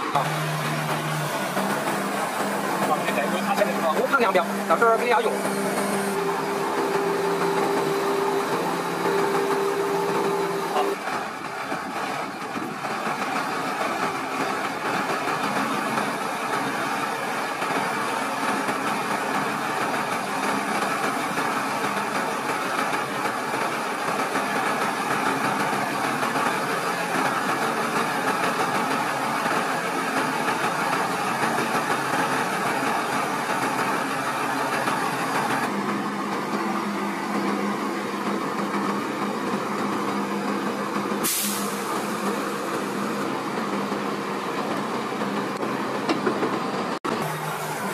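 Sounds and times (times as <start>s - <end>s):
diesel truck engine running: 0.0s - 47.9s.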